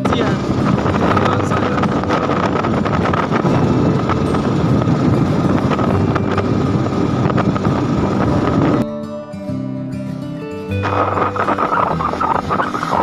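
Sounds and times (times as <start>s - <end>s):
steady rushing noise: 0.0s - 8.9s, 10.7s - 13.0s
wind buffeting microphone: 0.0s - 8.9s, 10.8s - 13.0s.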